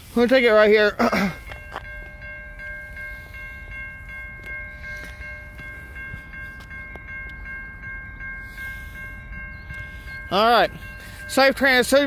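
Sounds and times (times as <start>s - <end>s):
electronic crossing bell ringing: 0.2s - 12.0s.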